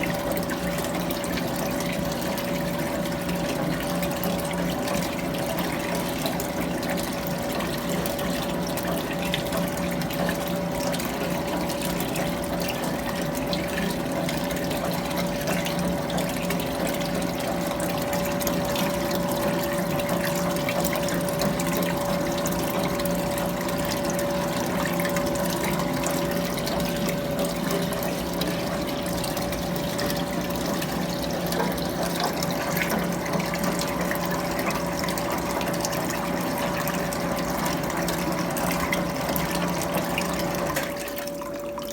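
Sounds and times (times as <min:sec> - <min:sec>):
running water: 0:00.0 - 0:41.9
washing machine motor hum: 0:00.0 - 0:41.9.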